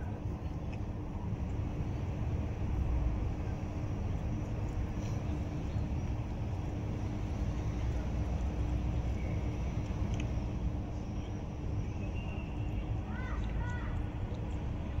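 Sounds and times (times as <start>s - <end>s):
constant low hum: 0.0s - 15.0s
low outdoor rumble: 0.0s - 15.0s.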